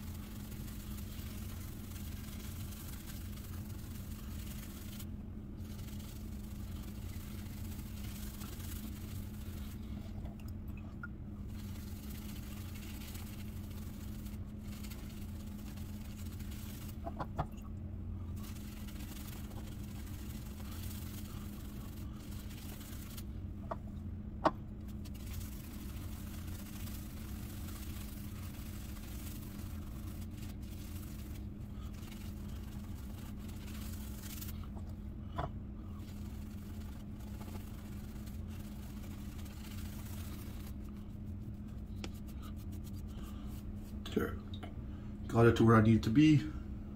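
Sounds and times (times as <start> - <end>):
shaving brush swishing lather: 0.0 - 10.3, 11.4 - 17.5, 18.1 - 23.5, 24.7 - 44.2
steady low hum: 0.0 - 46.9.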